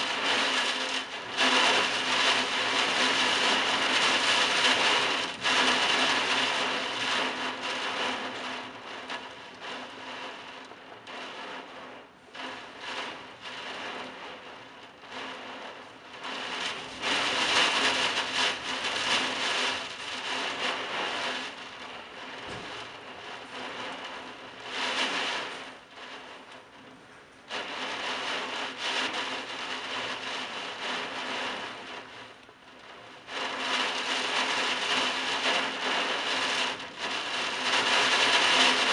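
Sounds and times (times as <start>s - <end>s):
heavy wind-driven rain: 0.0s - 38.9s.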